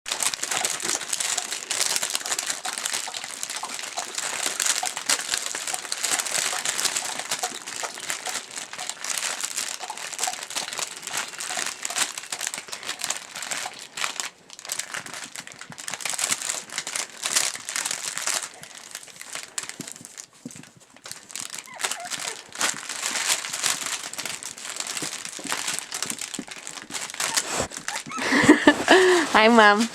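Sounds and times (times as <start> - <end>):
fabric toy crackling and rustling: 0.0 - 29.9.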